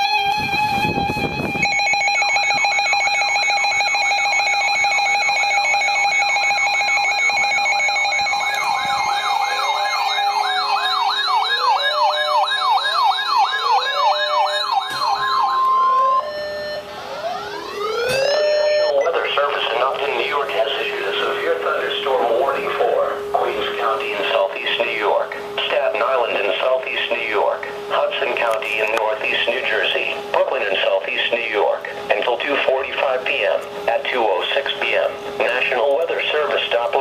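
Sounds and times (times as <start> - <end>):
fast warbling siren: 0.0 - 31.8
slower wailing sirens: 0.0 - 37.0.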